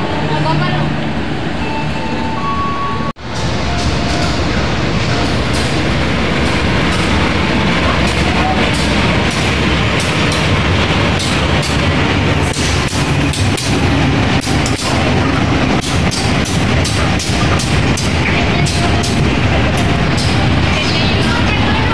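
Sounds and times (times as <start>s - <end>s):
diesel locomotive engine running: 0.0s - 21.9s
train wheels clicking over rail joints: 3.2s - 21.9s.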